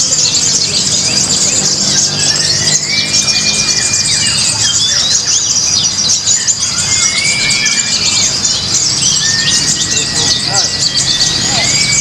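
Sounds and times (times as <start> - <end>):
birds twittering: 0.0 - 12.0
whistled bird notes: 0.0 - 12.0.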